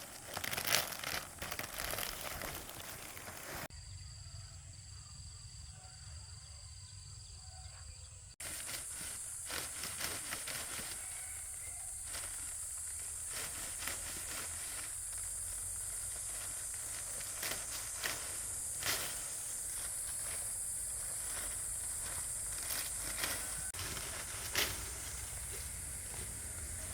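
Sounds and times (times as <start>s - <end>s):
light crackles and rustles: 0.0s - 3.7s, 8.4s - 26.9s.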